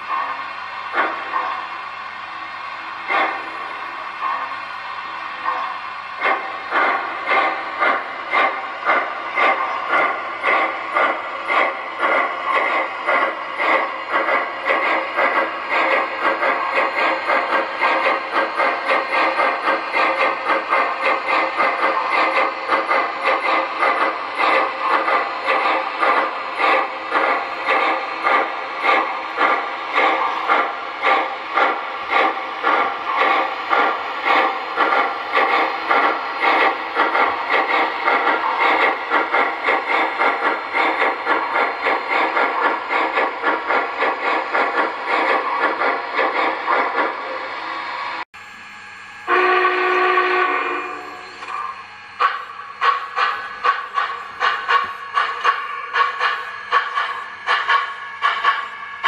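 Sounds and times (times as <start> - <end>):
model locomotive chuffing: 0.0 - 48.2, 49.2 - 59.0
steam hiss: 0.0 - 48.2, 52.2 - 59.0.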